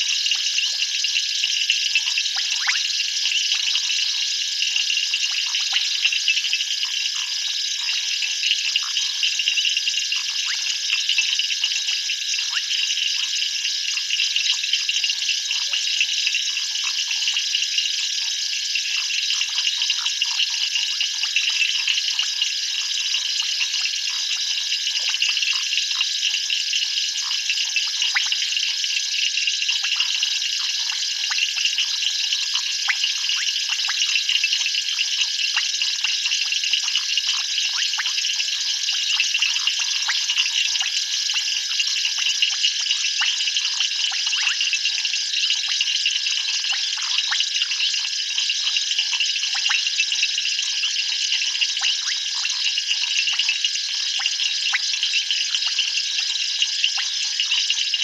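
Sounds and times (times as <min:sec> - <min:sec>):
insects and frogs chorus: 0:00.0 - 0:58.0.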